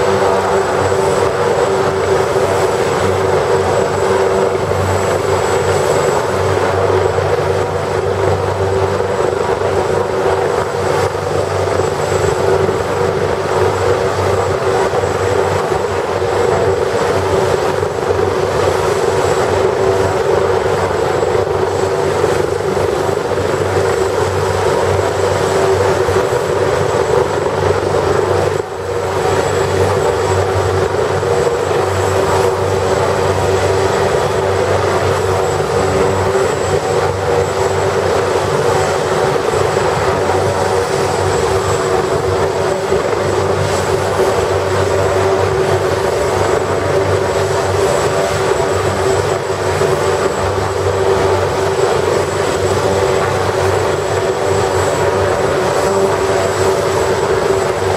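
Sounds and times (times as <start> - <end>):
helicopter rotor noise: 0.0 - 57.9
turbine whine: 0.0 - 57.9.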